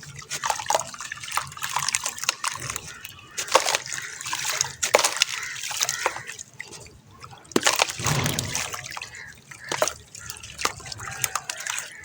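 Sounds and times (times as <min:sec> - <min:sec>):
water sloshing: 0:00.0 - 0:12.0.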